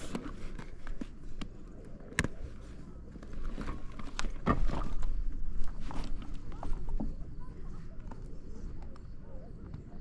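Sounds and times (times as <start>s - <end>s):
paddling water: 0.0s - 8.2s.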